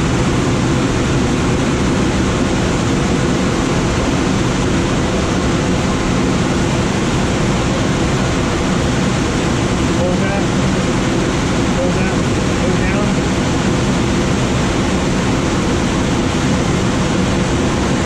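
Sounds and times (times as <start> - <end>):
airflow rushing around cockpit: 0.0 - 18.0.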